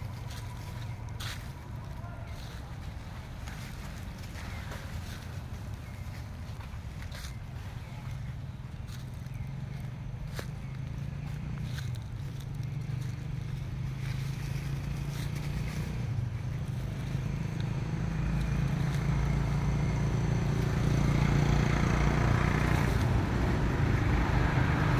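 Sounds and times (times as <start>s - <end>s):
vehicle engine humming: 0.0s - 24.9s.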